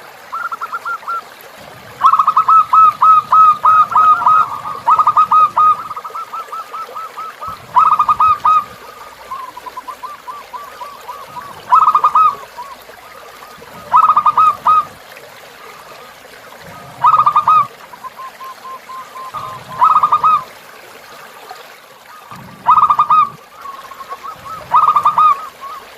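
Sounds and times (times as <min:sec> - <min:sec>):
stream trickling: 0:00.0 - 0:25.9
faint dove cooing: 0:00.3 - 0:20.6, 0:22.1 - 0:25.9
dove cooing: 0:00.4 - 0:20.5, 0:22.3 - 0:25.9.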